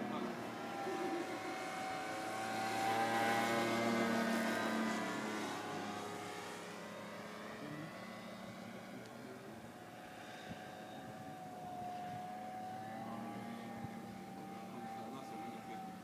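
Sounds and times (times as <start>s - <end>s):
model plane motor droning: 0.0s - 16.0s.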